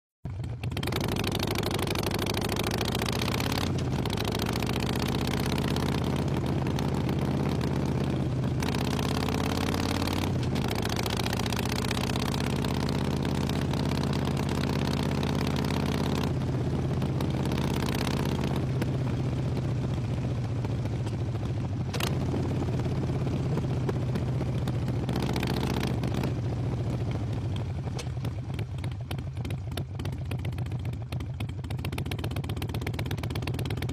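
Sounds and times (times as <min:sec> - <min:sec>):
motorcycle engine accelerating: 0:00.3 - 0:33.9.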